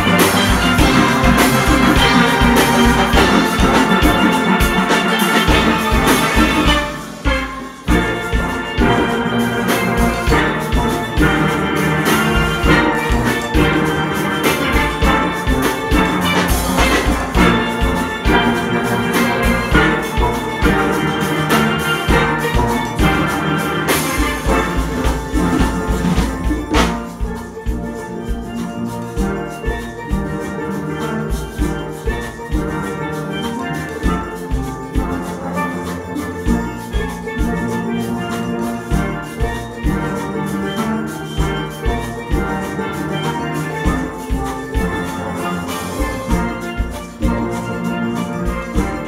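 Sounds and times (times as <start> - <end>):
steel orchestra playing: 0.0 - 49.0.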